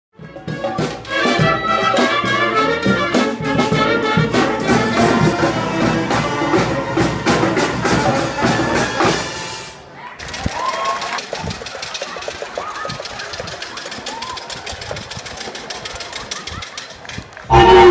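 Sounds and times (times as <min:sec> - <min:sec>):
street band playing lively tune: 0:00.2 - 0:17.9.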